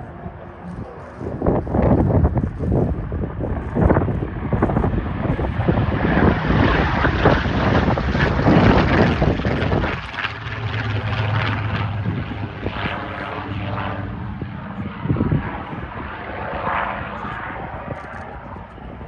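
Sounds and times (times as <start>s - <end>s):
propeller plane engine droning: 0.0s - 19.0s
wind buffeting microphone: 0.0s - 19.0s.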